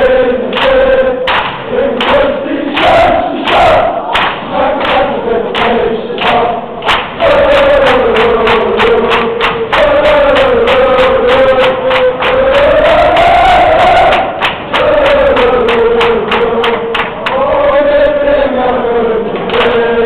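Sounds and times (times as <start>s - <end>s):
crowd chanting in unison: 0.0s - 20.0s
steady beat: 0.6s - 17.5s.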